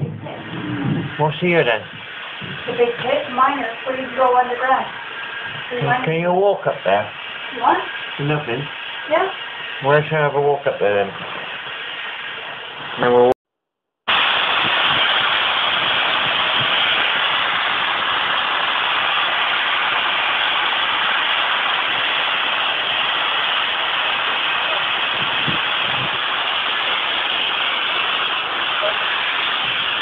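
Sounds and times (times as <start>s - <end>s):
loud hiss of locomotive steam: 0.1s - 13.2s, 14.1s - 30.0s.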